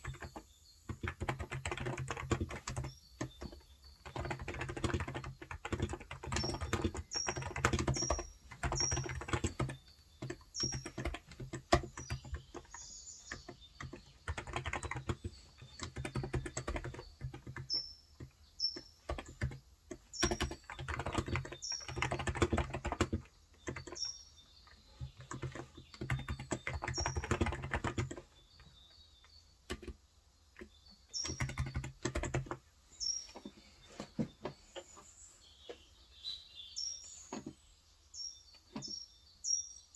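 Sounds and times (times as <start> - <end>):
keyboard typing: 0.0 - 28.8, 29.6 - 33.5
bird chirping: 0.0 - 39.9.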